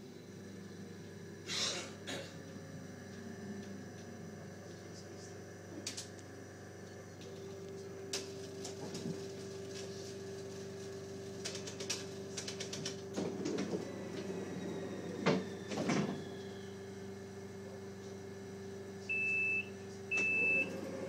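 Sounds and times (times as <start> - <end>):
train electrical hum: 0.0 - 21.0.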